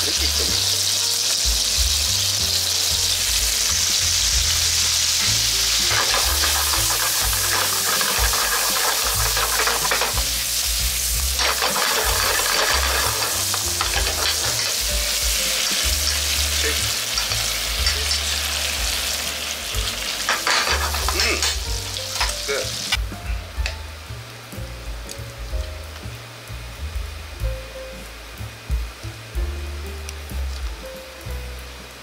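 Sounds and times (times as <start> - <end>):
sauce sizzling in a frying pan: 0.0 - 32.0.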